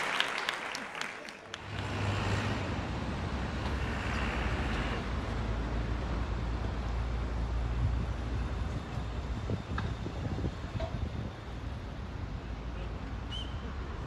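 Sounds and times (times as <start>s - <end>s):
traffic rumble of engines and tyres: 1.5s - 14.0s.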